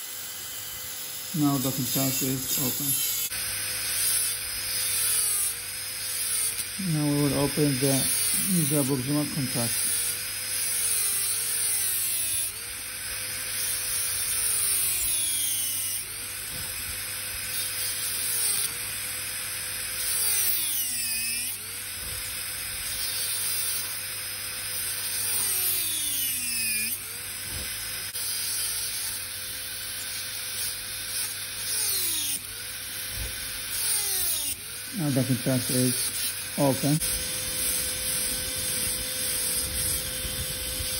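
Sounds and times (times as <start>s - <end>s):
dental drill whining: 0.0s - 40.9s.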